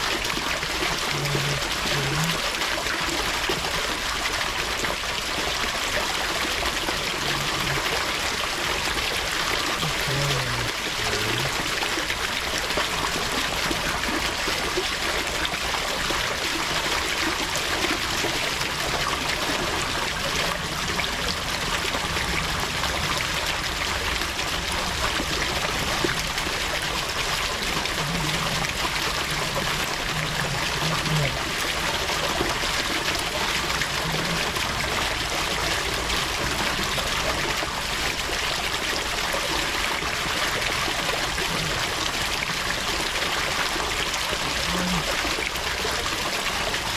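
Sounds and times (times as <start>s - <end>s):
water trickling: 0.0s - 46.9s.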